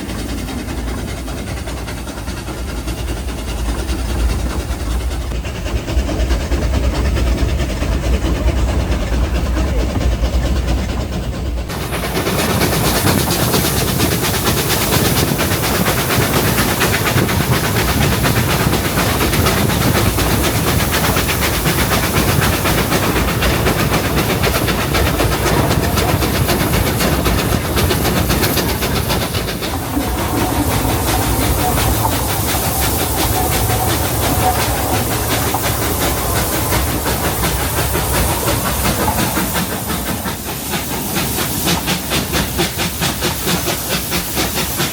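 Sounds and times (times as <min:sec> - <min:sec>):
steam hiss and rattle: 0:00.0 - 0:44.9
steam locomotive working hard: 0:00.0 - 0:44.9.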